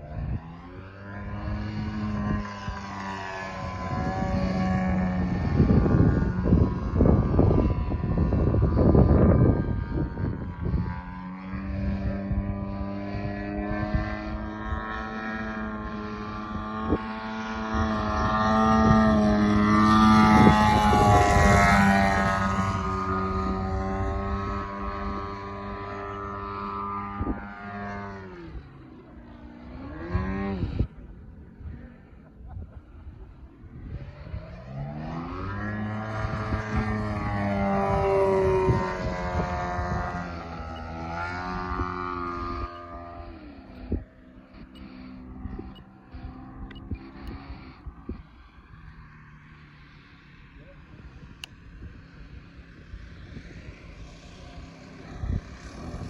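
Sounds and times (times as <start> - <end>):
model airplane engine and propeller: 0.0 - 56.0.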